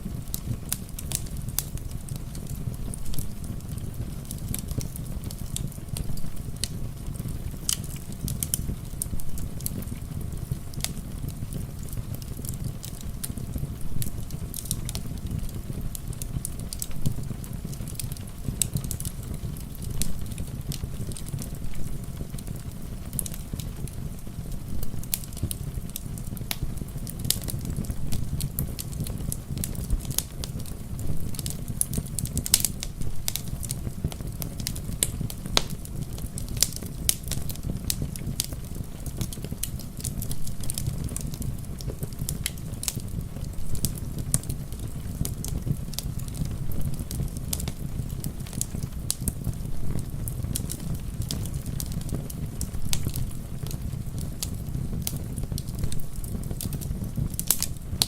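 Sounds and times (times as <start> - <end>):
fireplace fire crackling: 0.0 - 58.0
steady rain: 0.0 - 58.0.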